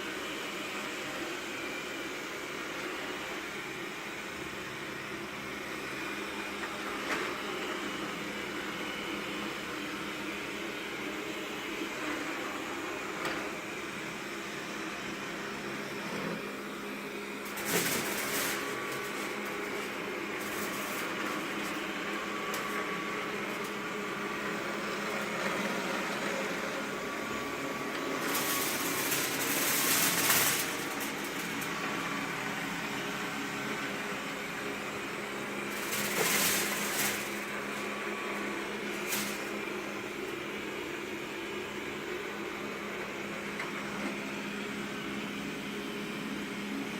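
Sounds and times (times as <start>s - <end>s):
robot vacuum humming: 0.0s - 46.9s.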